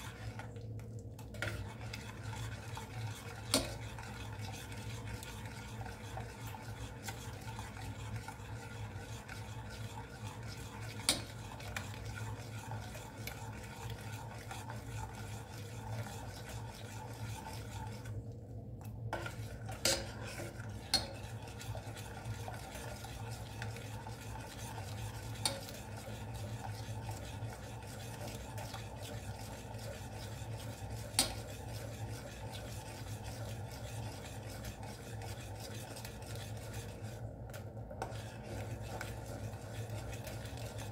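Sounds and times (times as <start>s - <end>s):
spoon stirring and scraping pot: 0.0s - 40.9s.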